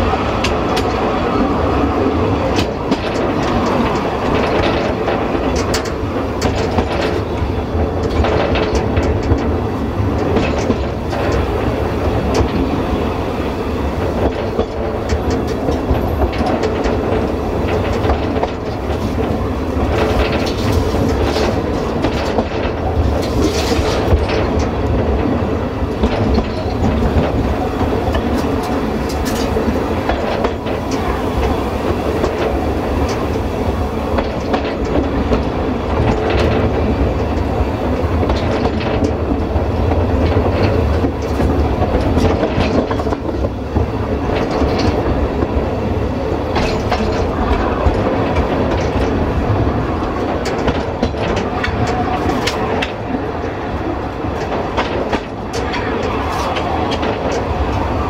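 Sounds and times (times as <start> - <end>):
railway carriage rumble: 0.0 - 58.0
wheels clicking over rail joints: 0.0 - 58.0.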